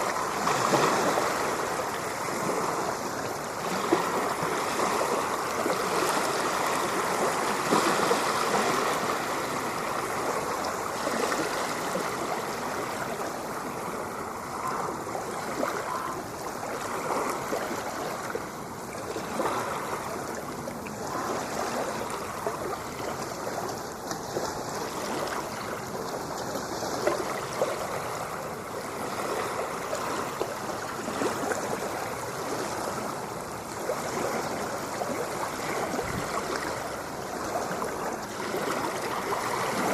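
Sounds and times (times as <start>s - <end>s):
ocean surf washing: 0.0s - 39.9s.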